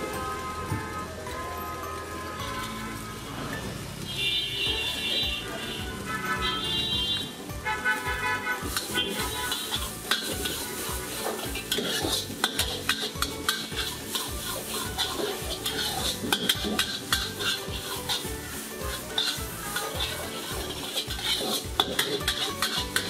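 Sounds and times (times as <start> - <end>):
food sizzling in pan: 0.0 - 23.0
spatula scraping steel wok: 4.3 - 23.0.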